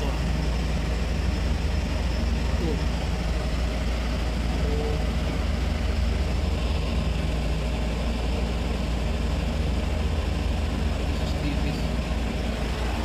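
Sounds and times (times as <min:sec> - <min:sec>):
air-conditioning machinery rumble: 0:00.0 - 0:13.0.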